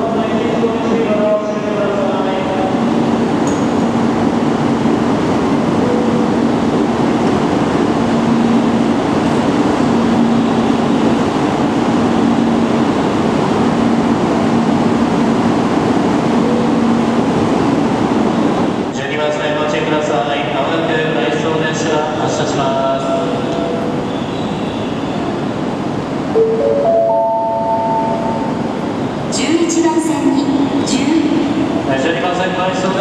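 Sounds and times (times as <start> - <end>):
train rushing past: 0.0 - 33.0.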